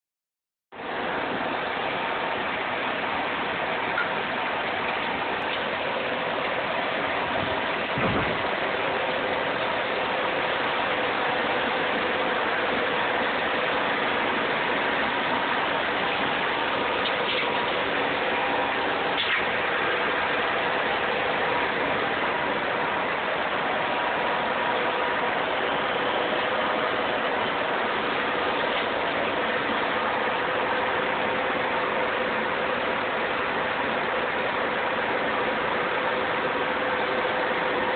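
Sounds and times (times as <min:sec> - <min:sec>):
server fans whooshing: 0:00.8 - 0:37.9.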